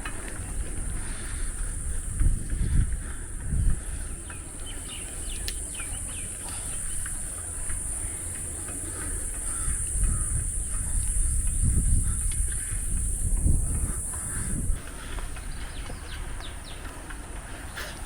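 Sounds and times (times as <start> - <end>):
high insect drone: 0.0 - 16.8.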